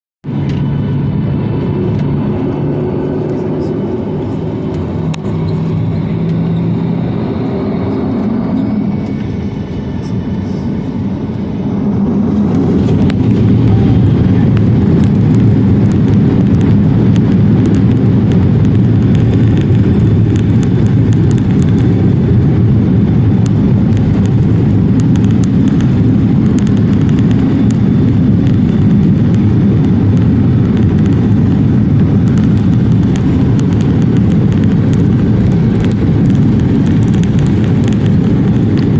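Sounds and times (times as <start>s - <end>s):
jet engines spooling up: 0.3s - 38.9s.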